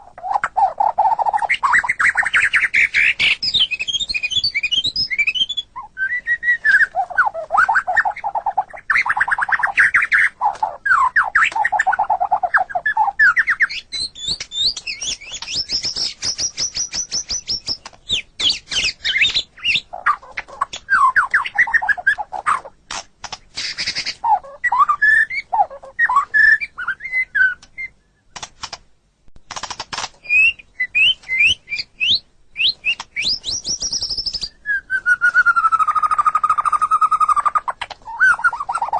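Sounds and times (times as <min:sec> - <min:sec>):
songbird singing varied song: 0:00.0 - 0:22.7, 0:23.6 - 0:28.4, 0:30.2 - 0:38.9.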